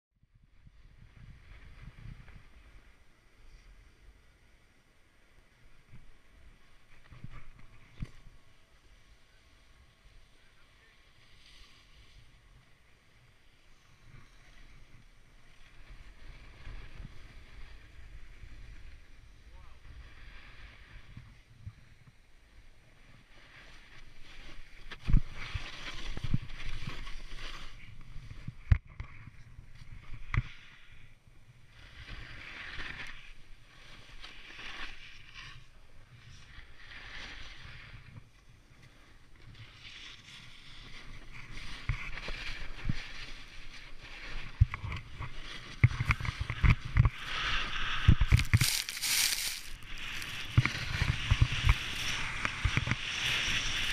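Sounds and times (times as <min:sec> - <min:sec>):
snowboard scraping snow: 0:00.8 - 0:03.8, 0:05.8 - 0:08.4, 0:11.0 - 0:53.9.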